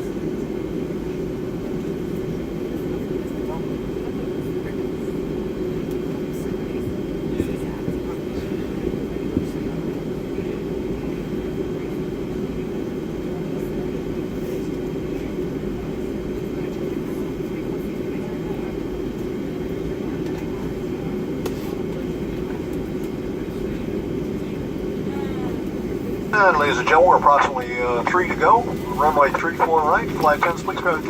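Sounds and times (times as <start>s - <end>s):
aircraft cabin low rumble: 0.0s - 31.0s.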